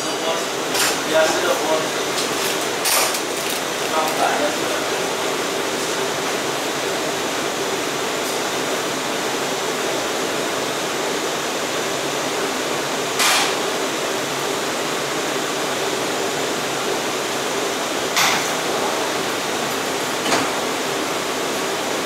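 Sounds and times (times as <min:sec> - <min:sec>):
subway car running noise: 0:00.0 - 0:22.0.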